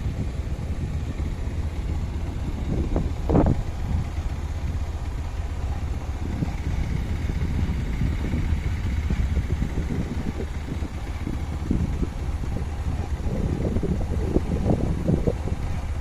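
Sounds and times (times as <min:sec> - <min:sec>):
constant noise haze: 0:00.0 - 0:16.0
vehicle engine rumbling: 0:00.0 - 0:16.0.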